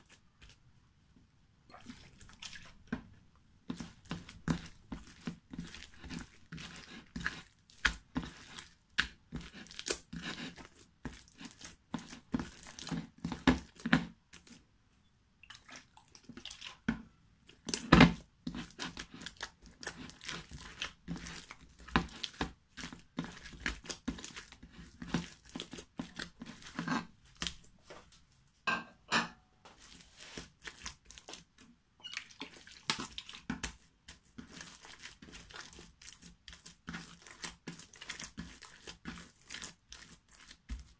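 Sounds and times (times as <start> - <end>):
slime squelching and crackling: 1.7 - 2.9, 3.7 - 14.6, 15.5 - 27.8, 29.8 - 40.9.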